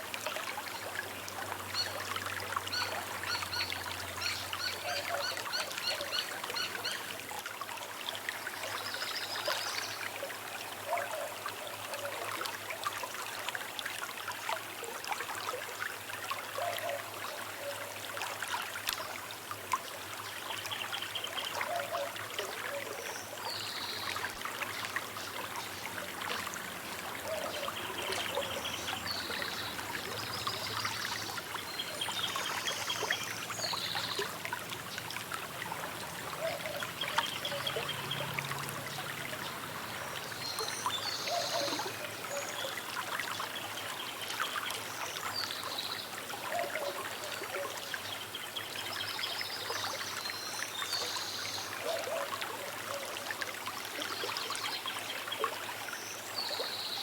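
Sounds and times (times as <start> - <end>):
river trickling and babbling: 0.0 - 57.0.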